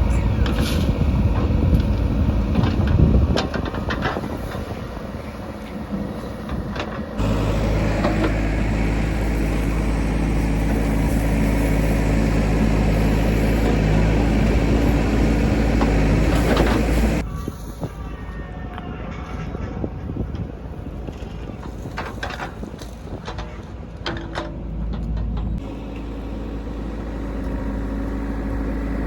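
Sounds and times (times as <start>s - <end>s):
heavy diesel engine humming: 0.0s - 29.0s.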